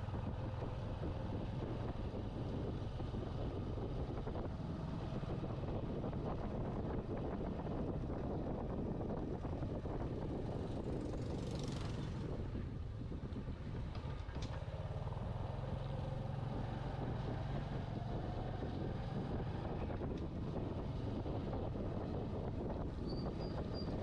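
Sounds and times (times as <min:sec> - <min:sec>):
wind noise: 0:00.0 - 0:14.4, 0:16.4 - 0:24.0.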